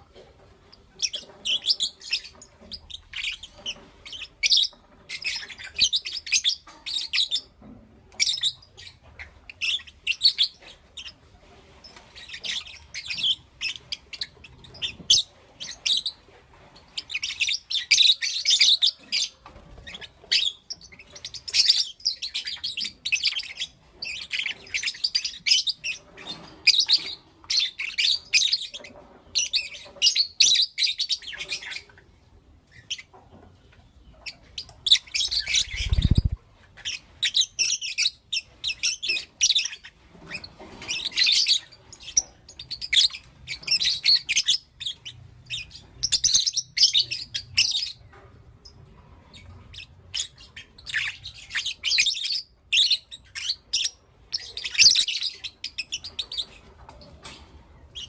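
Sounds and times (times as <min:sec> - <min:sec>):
lovebirds chirping: 0:00.7 - 0:58.0.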